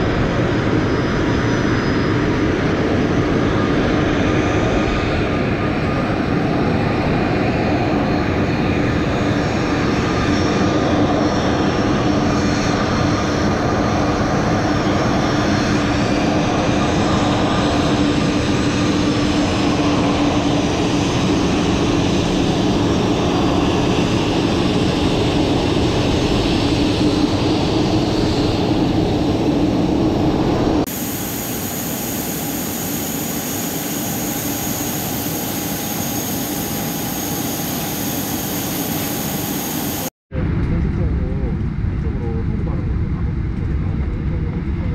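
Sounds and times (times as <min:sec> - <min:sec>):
jet airliners whining and rumbling: 0:00.0 - 0:44.9.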